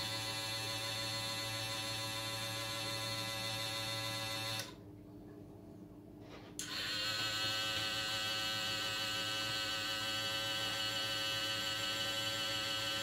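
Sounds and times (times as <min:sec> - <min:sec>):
small motor humming with whine: 0:00.0 - 0:04.8, 0:06.6 - 0:13.0.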